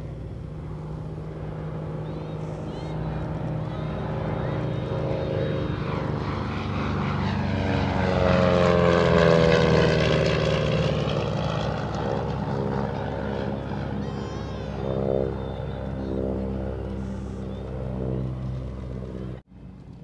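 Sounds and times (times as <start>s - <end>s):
propeller plane passing overhead: 0.0s - 20.0s.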